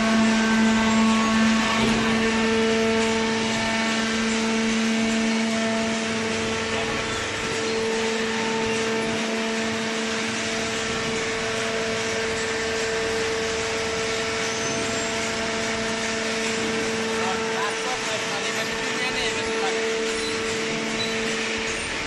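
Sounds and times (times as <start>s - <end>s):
hydraulic pump motor humming: 0.0s - 22.0s.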